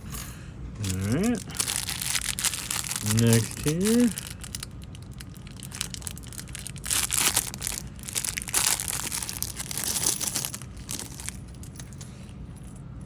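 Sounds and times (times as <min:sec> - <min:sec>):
packaging crinkling and tearing: 0:00.8 - 0:11.4.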